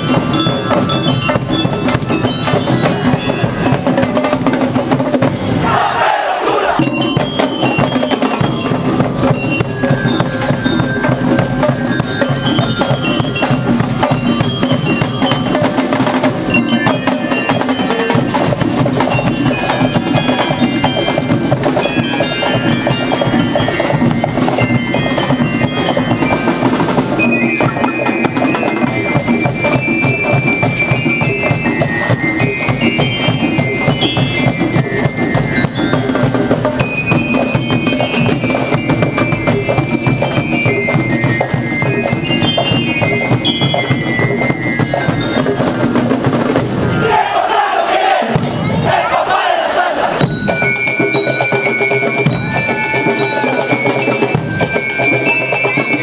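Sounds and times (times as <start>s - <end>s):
bell-lyre melody: 0.0s - 5.3s, 6.8s - 46.7s, 50.2s - 56.0s
snare and bass drums: 0.0s - 5.7s, 6.8s - 46.9s, 48.2s - 49.0s
marching drum band: 0.0s - 56.0s.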